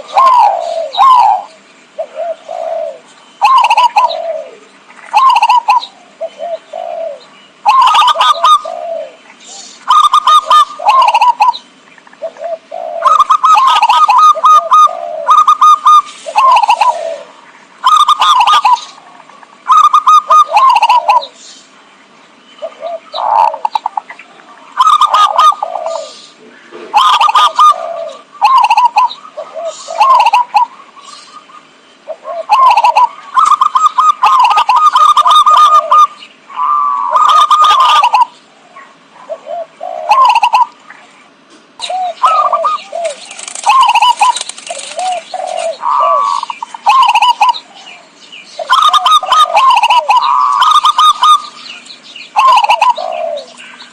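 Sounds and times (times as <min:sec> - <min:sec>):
dove cooing: 0:00.0 - 0:21.4, 0:22.6 - 0:53.9.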